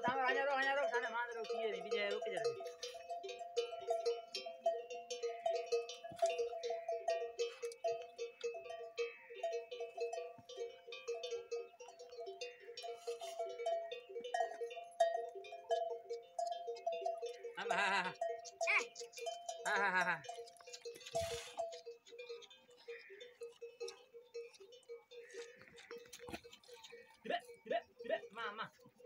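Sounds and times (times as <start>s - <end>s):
camel neck bells clanking: 0.0s - 29.0s.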